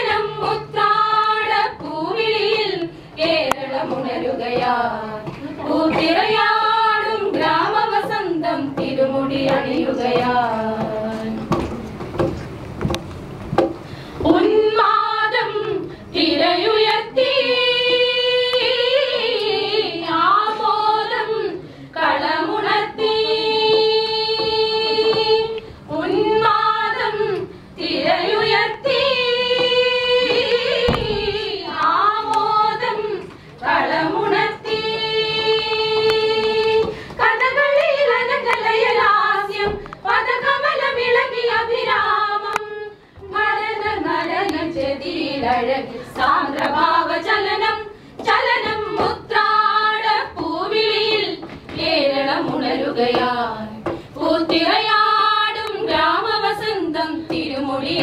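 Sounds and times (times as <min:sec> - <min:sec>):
group of women singing: 0:00.0 - 0:11.8, 0:14.2 - 0:58.0.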